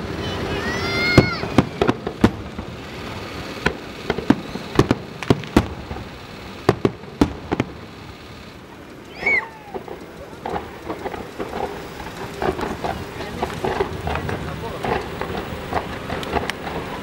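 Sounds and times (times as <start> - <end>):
fireworks bangs: 0.0 - 17.0
steady hiss: 0.0 - 17.0.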